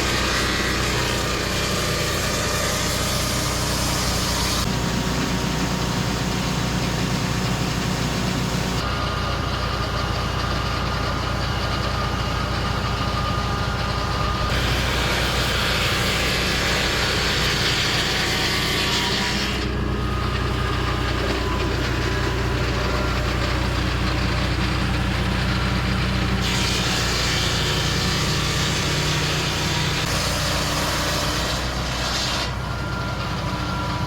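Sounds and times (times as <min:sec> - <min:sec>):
sawmill engine running: 0:00.0 - 0:34.0.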